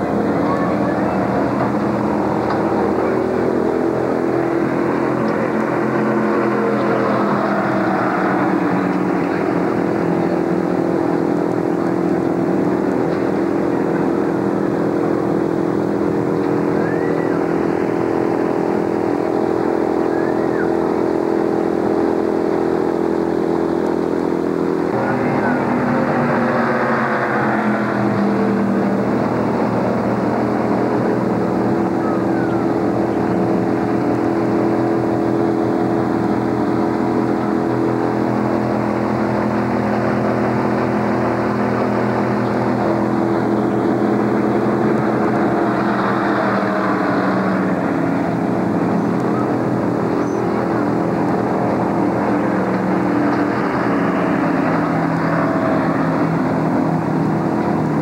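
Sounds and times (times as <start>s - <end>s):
car engine idling loudly: 0.0s - 58.0s.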